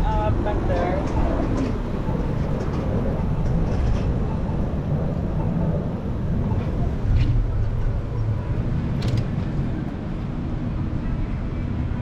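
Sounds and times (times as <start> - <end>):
road noise: 0.0 - 12.0
wind rumble: 0.0 - 12.0.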